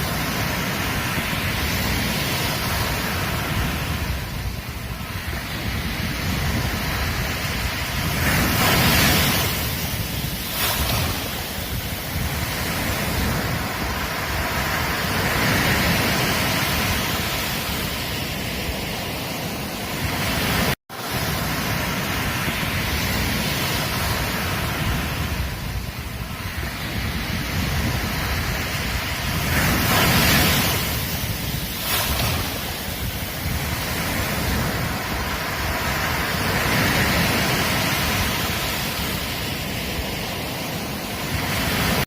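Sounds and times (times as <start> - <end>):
ocean surf washing on beach: 0.0 - 42.0.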